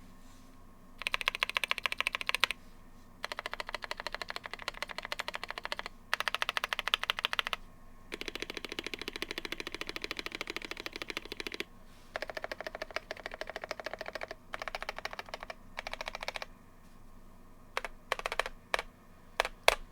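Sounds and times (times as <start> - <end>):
mechanical keyboard typing: 1.0 - 2.6, 3.2 - 16.5, 17.8 - 19.9.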